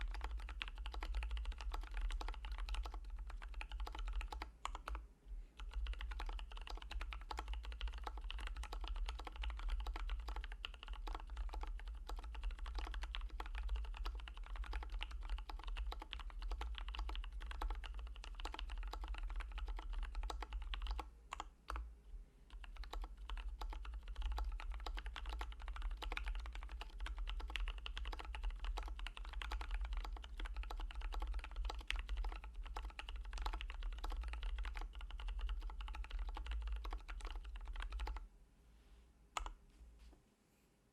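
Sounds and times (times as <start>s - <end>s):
mechanical keyboard typing: 0.0s - 5.0s, 5.6s - 21.8s, 22.5s - 38.2s.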